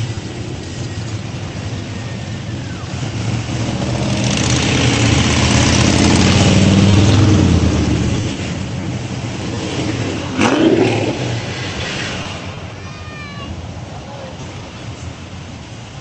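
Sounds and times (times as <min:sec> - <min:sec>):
engine loud burst: 0:00.0 - 0:15.0
sports car engines passing: 0:00.0 - 0:16.0.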